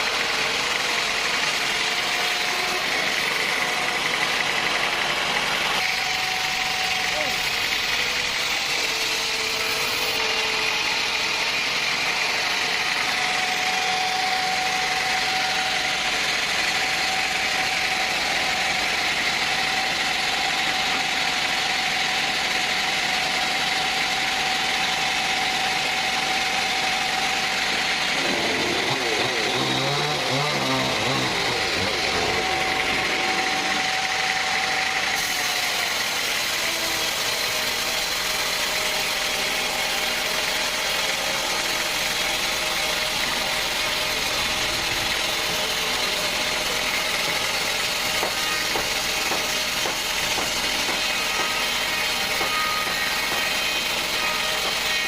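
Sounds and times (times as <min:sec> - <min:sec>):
sawmill saw cutting wood: 0:00.0 - 0:55.0.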